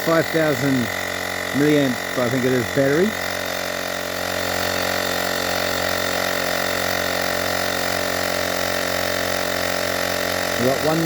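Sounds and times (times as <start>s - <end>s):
tyre inflator pump buzzing: 0.0s - 11.0s.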